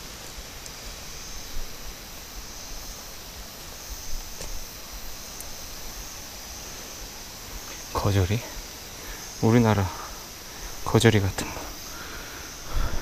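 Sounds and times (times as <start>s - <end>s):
high-pitched insect drone: 0.0s - 13.0s
low rustling hiss: 0.0s - 13.0s.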